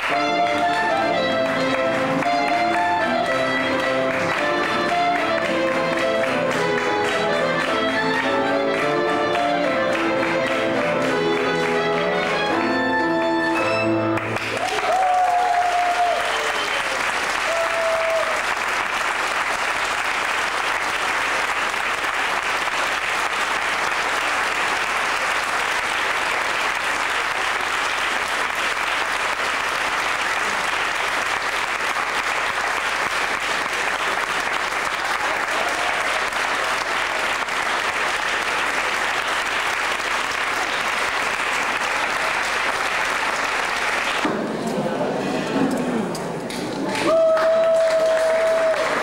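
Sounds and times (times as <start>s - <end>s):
audience applauding: 0.0s - 13.2s, 13.9s - 45.1s, 45.7s - 49.0s.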